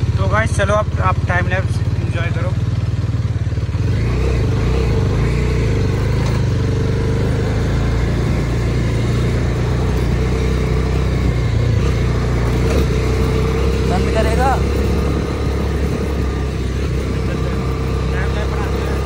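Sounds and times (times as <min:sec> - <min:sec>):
motorcycle engine humming: 0:00.0 - 0:19.0
road noise: 0:00.0 - 0:19.0.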